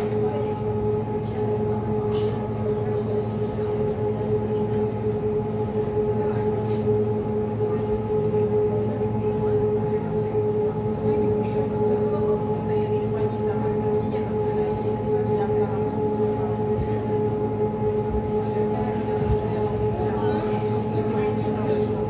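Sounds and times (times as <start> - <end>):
boat engine drone with whine: 0.0 - 22.0.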